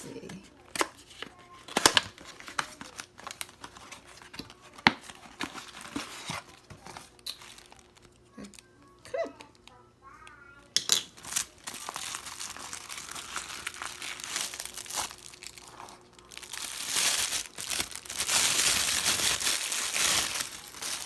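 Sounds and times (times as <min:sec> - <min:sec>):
packaging crinkling and rustling: 0:00.6 - 0:08.6, 0:11.0 - 0:21.0.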